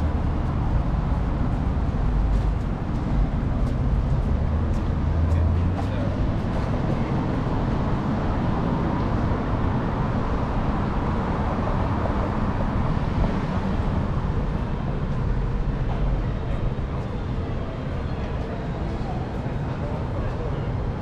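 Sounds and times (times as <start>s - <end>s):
city traffic noise: 0.0s - 21.0s.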